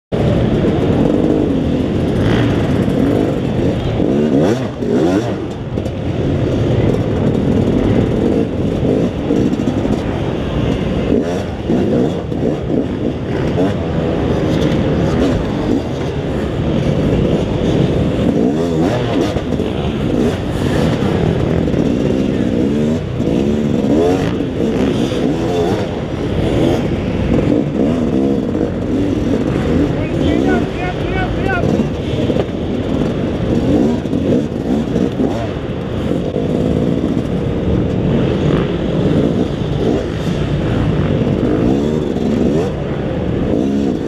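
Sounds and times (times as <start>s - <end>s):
dirt bike engine revving: 0.2s - 44.0s.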